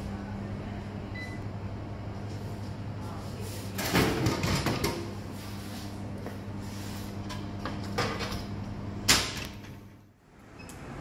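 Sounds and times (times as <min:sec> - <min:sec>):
vending machine hum: 0:00.0 - 0:11.0.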